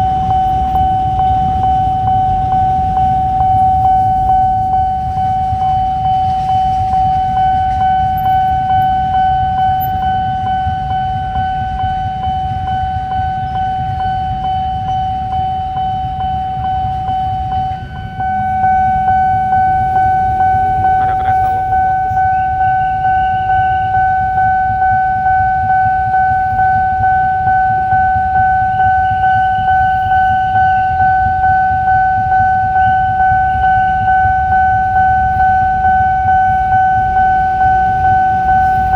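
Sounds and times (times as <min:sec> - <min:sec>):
level crossing alarm pulsing: 0:00.0 - 0:38.9
low traffic rumble: 0:00.0 - 0:38.9.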